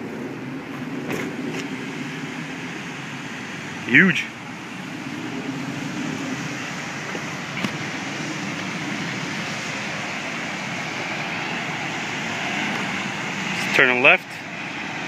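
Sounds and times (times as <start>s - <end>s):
car engine running: 0.0s - 15.0s
street traffic noise: 0.0s - 15.0s.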